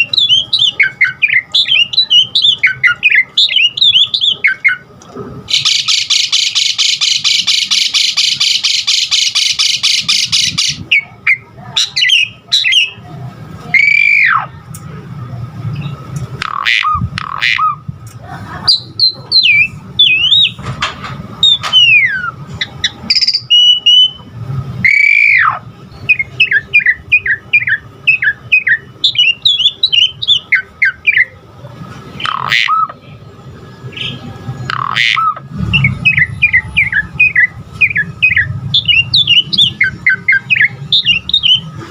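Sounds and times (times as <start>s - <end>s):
starling singing: 0.0s - 14.8s, 15.7s - 17.9s, 18.7s - 20.6s, 21.3s - 41.9s.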